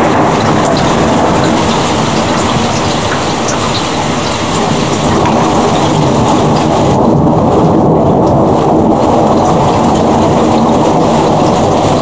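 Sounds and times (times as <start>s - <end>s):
thunder rumbling: 0.0s - 12.0s.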